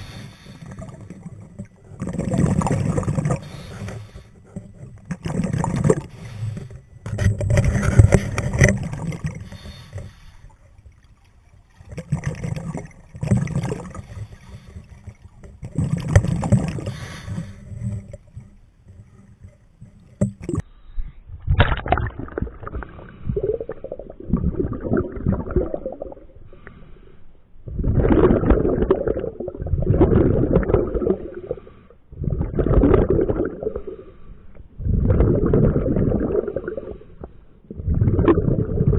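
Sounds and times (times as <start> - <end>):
exhaled bubbles gurgling: 0.0 - 11.0, 11.6 - 20.6, 21.4 - 26.7, 27.6 - 38.9.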